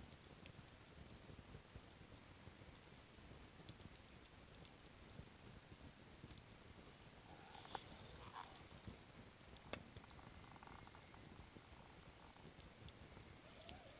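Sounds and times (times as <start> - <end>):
campfire crackling: 0.0 - 13.9.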